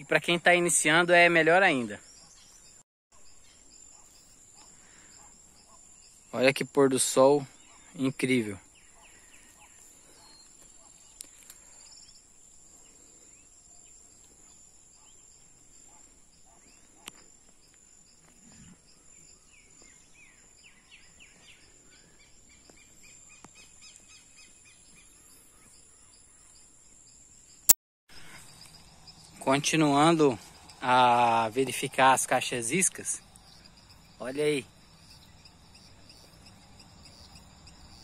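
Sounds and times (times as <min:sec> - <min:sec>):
birds chirping: 0:00.0 - 0:38.0
insects trilling: 0:00.1 - 0:27.6, 0:28.2 - 0:38.0.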